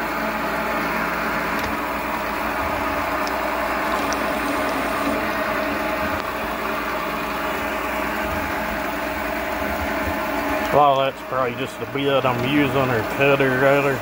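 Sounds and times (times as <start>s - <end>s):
metal lathe whining: 0.0s - 14.0s.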